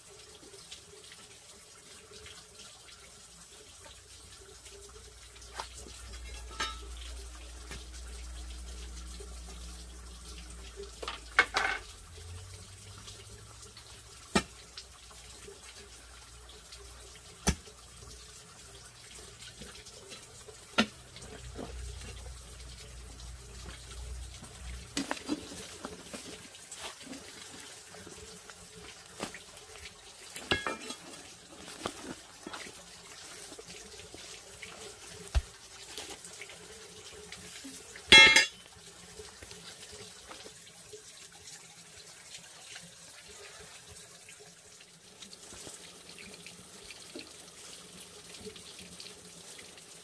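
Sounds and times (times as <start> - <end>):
water running and splashing: 0.0 - 50.0.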